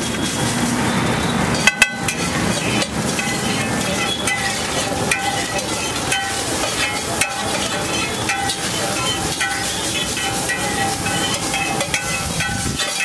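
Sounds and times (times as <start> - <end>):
metal spatula scraping griddle: 0.0 - 13.0
sizzling hot plate: 0.0 - 13.0.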